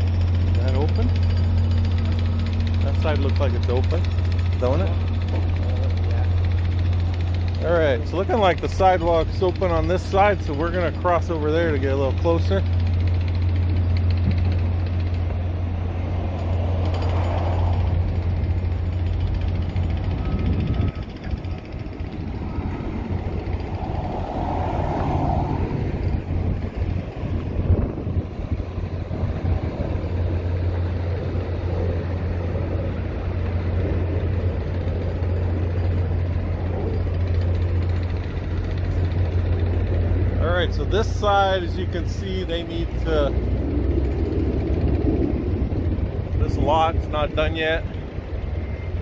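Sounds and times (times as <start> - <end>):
street traffic: 0.0 - 49.0
vehicle engine droning: 0.0 - 49.0.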